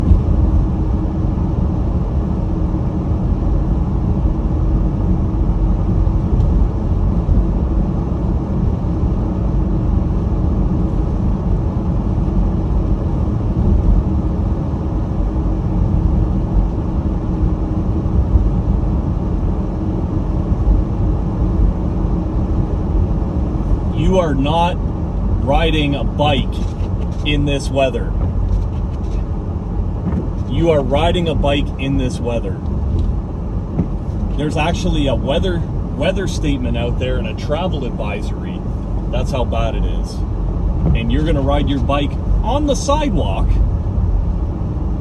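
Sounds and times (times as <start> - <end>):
faint constant hum: 0.0 - 45.0
tyre and engine rumble in car: 0.0 - 45.0.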